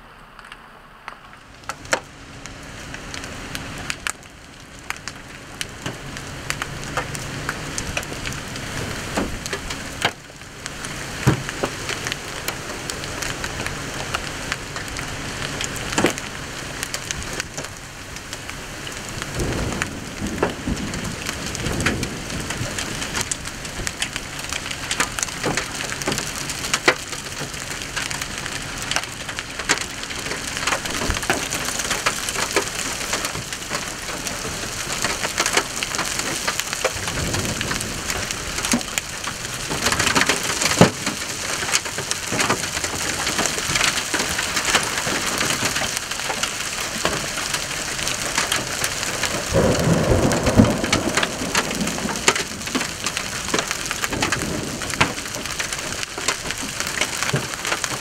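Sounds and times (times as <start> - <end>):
hail and rain pelting: 0.4 - 58.0
thunder rumbling: 3.1 - 58.0.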